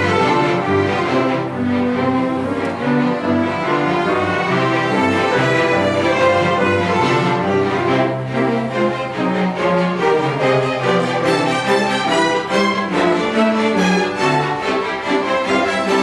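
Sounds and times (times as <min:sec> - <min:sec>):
bowed strings: 0:00.0 - 0:16.0
orchestra playing: 0:00.0 - 0:16.0.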